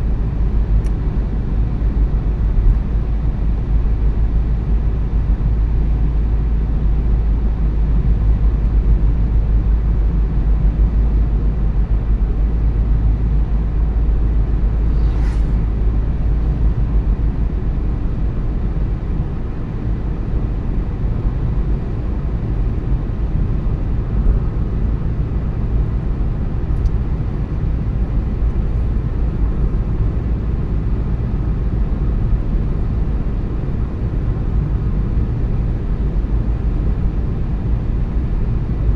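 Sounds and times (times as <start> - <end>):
car driving heard from inside: 0.0 - 38.9.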